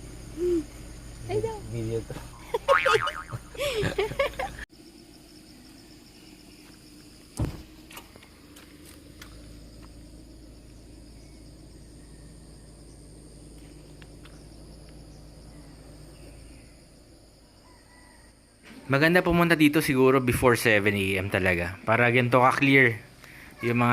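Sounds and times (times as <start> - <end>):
faint outdoor hum: 0.0 - 23.9
insects chirring: 0.0 - 23.9.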